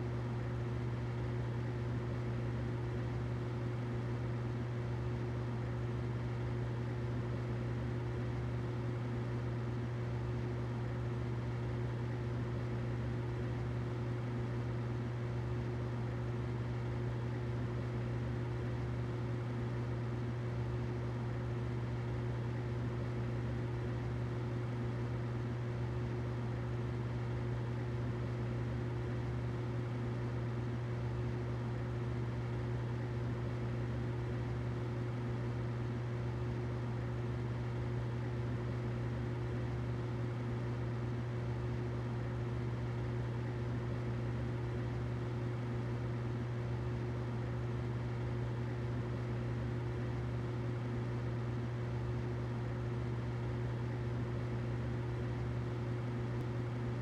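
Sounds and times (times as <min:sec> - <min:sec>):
humidifier humming: 0:00.0 - 0:57.0.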